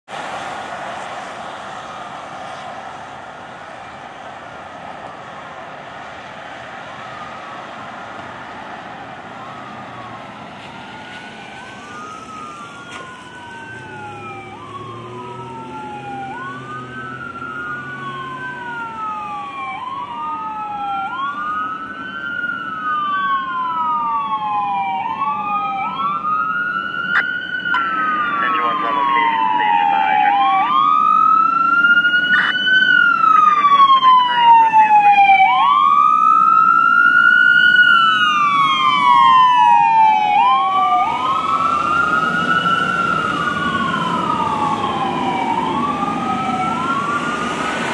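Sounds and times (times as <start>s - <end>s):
fire engine siren wailing: 0.1s - 47.9s.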